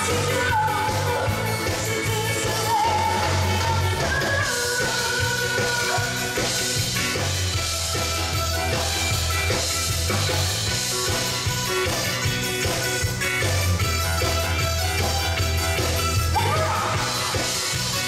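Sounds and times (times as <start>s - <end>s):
live pop song through speakers: 0.0s - 18.0s.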